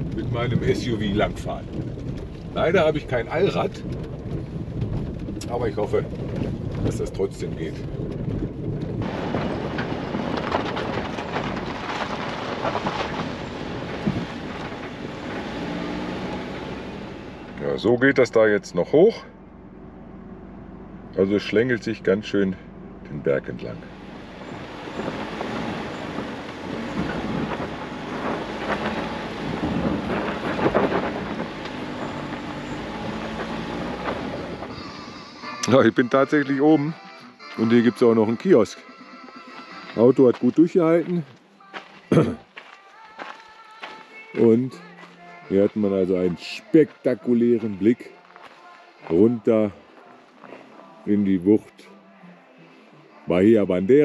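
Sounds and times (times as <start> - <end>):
tyres crunching over loose stones: 0.0 - 18.0, 23.5 - 36.8, 37.5 - 51.7
car rattling: 0.0 - 41.3, 43.8 - 48.4
steady rumble: 0.0 - 51.8.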